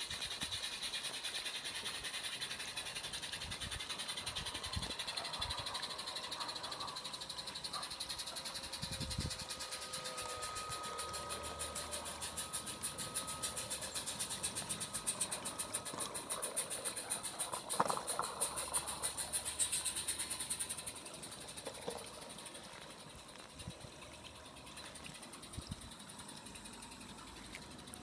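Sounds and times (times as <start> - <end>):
model train running on track: 0.0 - 28.0.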